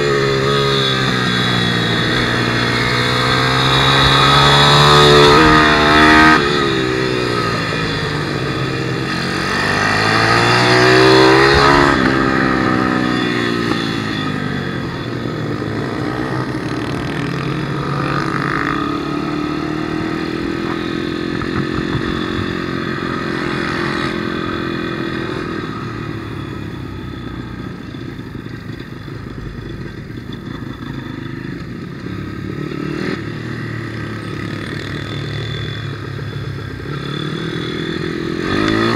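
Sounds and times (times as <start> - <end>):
motorbike engine revving: 0.0 - 26.5, 32.4 - 38.9.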